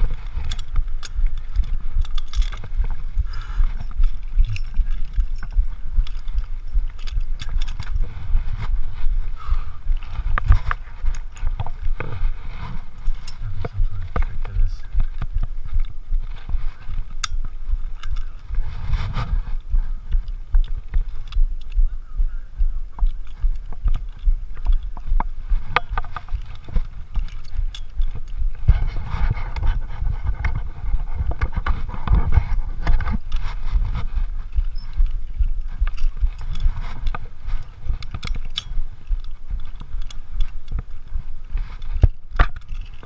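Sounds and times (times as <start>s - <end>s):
sharp clicks and scrapes: 0.0s - 21.9s, 22.9s - 43.0s
microphone buffeting and rubbing: 0.0s - 43.0s.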